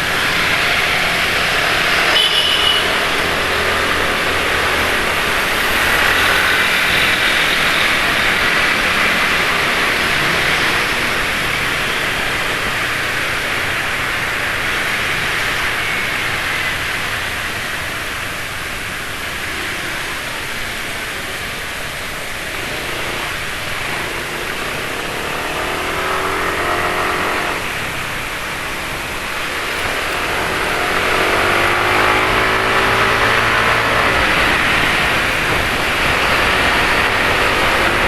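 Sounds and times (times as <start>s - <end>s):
motorcycle engines running: 0.0s - 38.0s
steady rushing noise: 0.0s - 38.0s.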